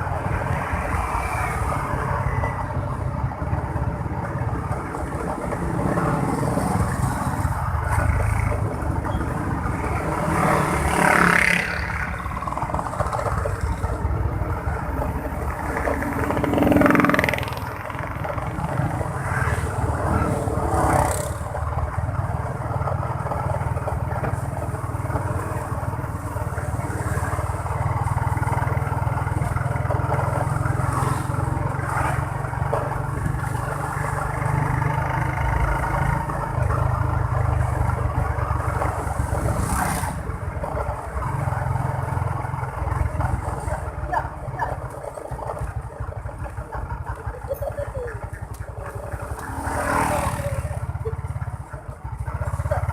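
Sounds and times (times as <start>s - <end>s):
motorcycle engine running: 2.7s - 52.9s.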